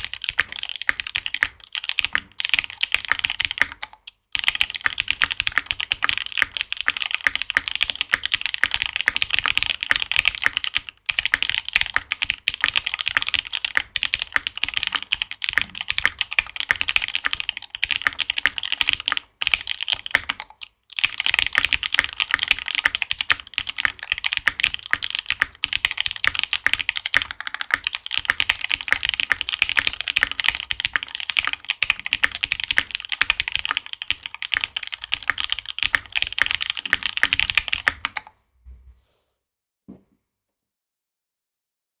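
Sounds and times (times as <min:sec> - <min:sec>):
mechanical keyboard typing: 0:00.0 - 0:38.4.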